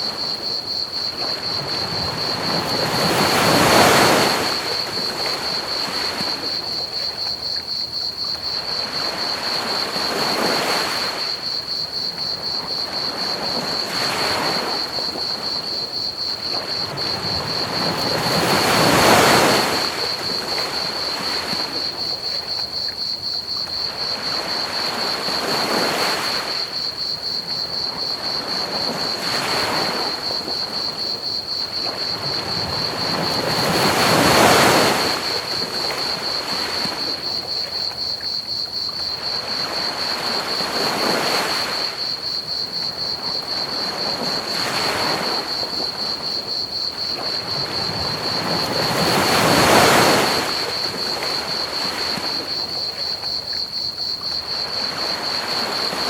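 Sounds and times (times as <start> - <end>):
crickets chirping: 0.0 - 56.0
ocean waves washing ashore: 0.0 - 56.0.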